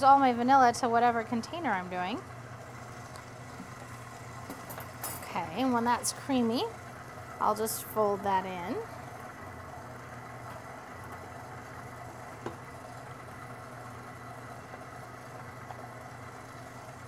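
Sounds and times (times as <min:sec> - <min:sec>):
stand mixer motor humming: 0:01.5 - 0:17.0.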